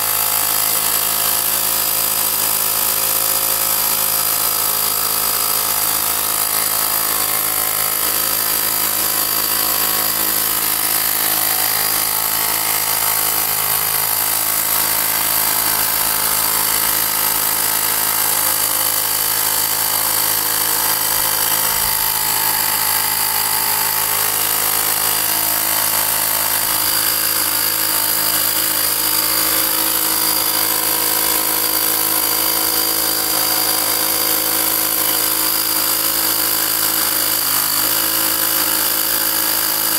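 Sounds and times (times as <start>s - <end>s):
portable air compressor running: 0.0s - 39.9s.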